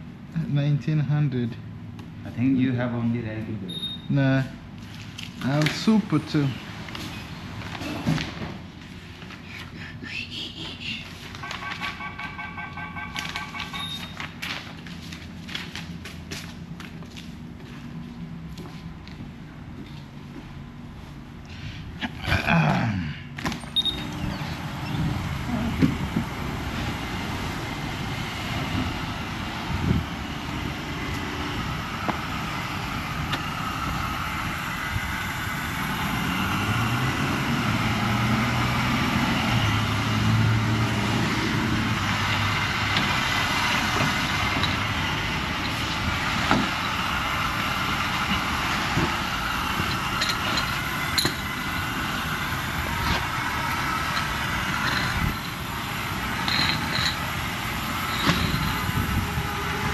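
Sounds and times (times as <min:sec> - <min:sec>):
motor vehicle engine hum: 0:00.0 - 0:59.9.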